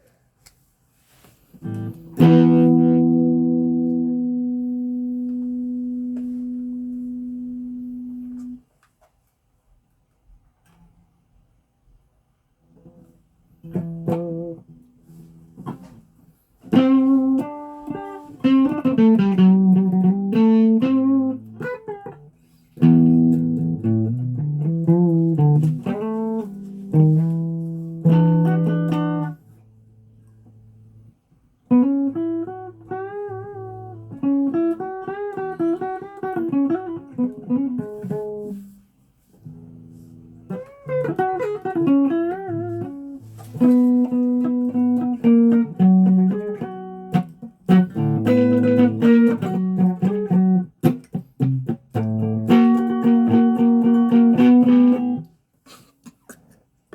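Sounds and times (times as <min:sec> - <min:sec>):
plucked guitar: 0:01.5 - 0:08.7, 0:12.7 - 0:56.6.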